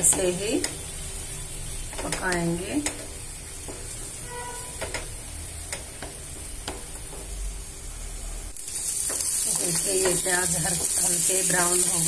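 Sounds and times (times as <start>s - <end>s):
onion paste sizzling in a pan: 0.0s - 12.0s.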